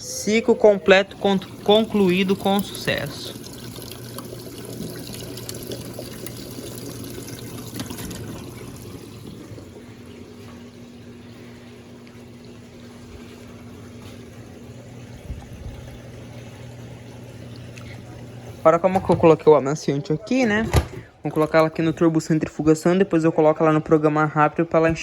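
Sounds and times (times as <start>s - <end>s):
water draining: 0.0s - 24.0s
drain pump hum: 0.0s - 25.0s.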